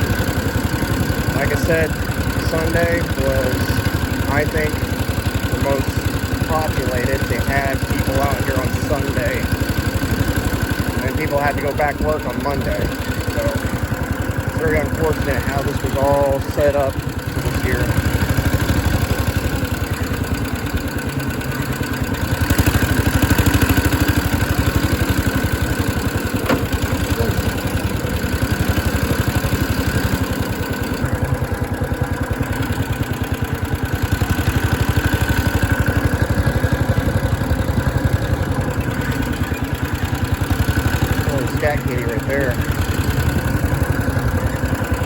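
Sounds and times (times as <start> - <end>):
mini bike engine running: 0.0 - 45.0.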